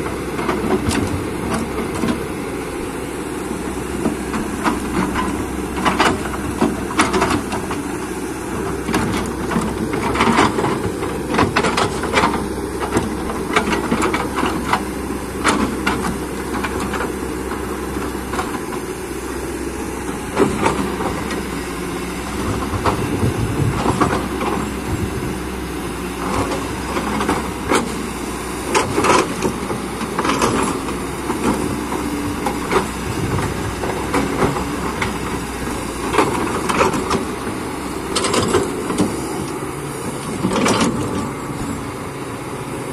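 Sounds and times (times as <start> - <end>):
excavator engine under load: 0.0 - 42.9
knocks and clanks of digging: 4.0 - 7.9, 8.5 - 18.9, 20.0 - 25.5, 26.2 - 41.7.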